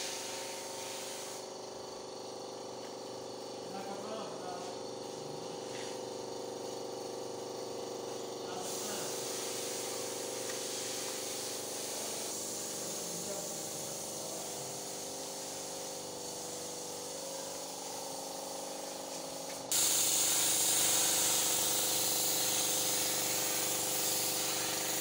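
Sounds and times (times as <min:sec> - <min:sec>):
paint spray gun hissing: 0:00.0 - 0:25.0.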